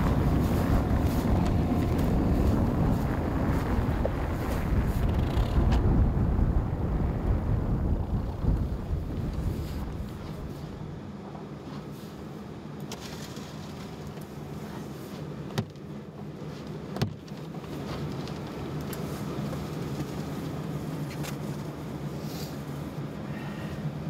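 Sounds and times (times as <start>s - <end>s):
car engine humming: 0.0s - 24.0s.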